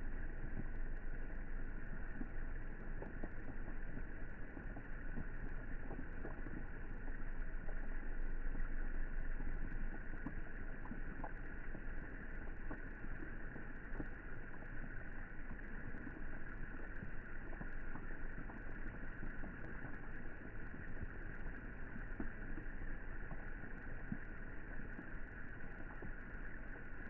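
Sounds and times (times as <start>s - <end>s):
rain falling into pool: 0.0s - 27.0s
small drip ticks: 0.0s - 27.0s.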